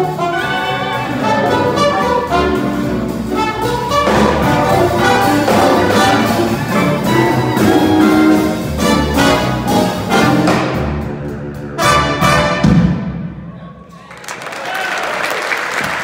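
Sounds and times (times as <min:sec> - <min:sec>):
jazz big band playing: 0:00.0 - 0:13.4.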